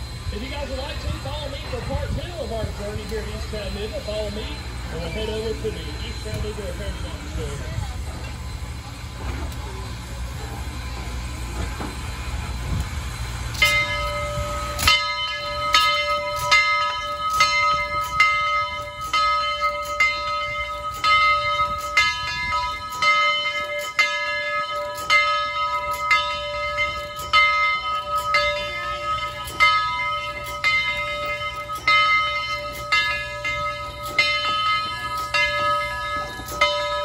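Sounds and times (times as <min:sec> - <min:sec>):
steam locomotive bell ringing: 0:00.0 - 0:37.0.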